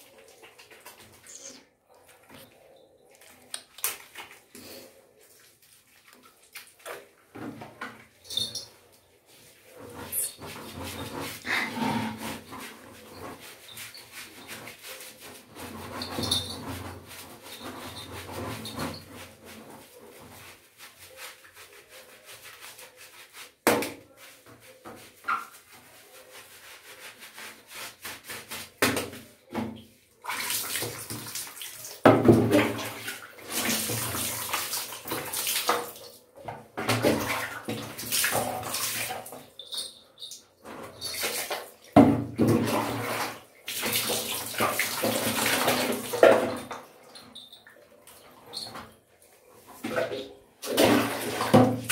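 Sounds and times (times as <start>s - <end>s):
water splashing on tiled floor: 0.0s - 51.9s.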